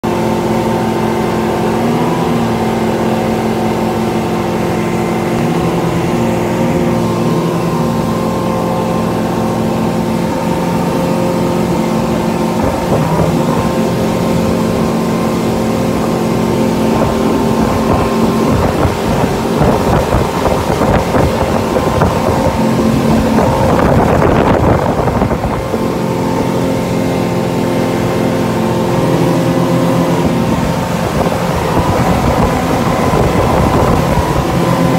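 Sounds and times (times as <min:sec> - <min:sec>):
motorboat engine droning: 0:00.0 - 0:34.9
rushing water: 0:00.0 - 0:34.9
wind buffeting microphone: 0:00.1 - 0:34.9.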